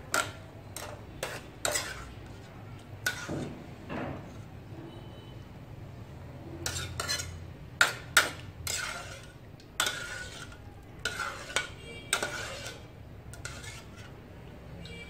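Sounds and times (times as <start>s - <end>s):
metal ladle scraping a wok: 0.0s - 5.0s, 6.4s - 15.0s.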